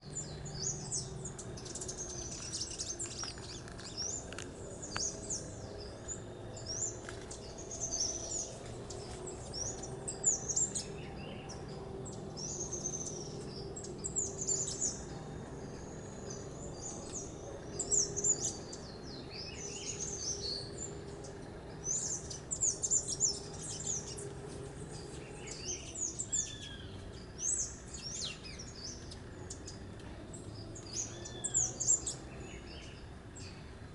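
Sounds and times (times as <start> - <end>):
low down-slurred bird notes: 0.0 - 33.9
small birds chirping: 0.0 - 33.9.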